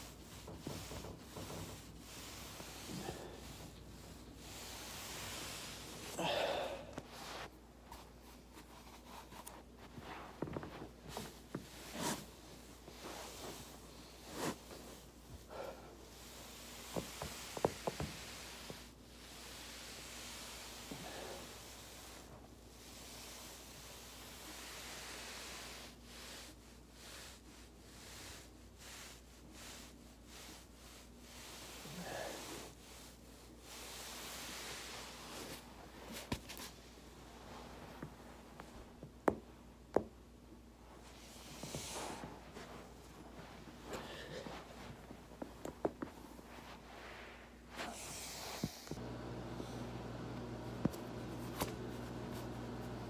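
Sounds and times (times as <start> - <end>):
clothing rubbing on foam roller: 0.0 - 53.0.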